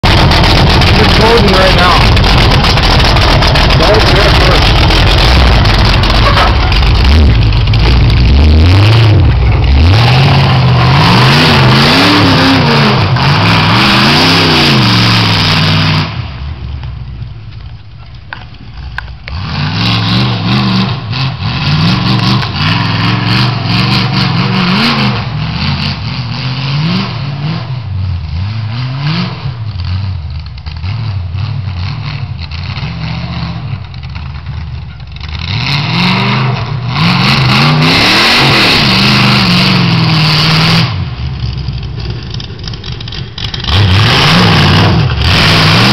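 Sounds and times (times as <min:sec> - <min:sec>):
truck engine revving: 0:00.0 - 0:16.6, 0:18.3 - 0:45.9.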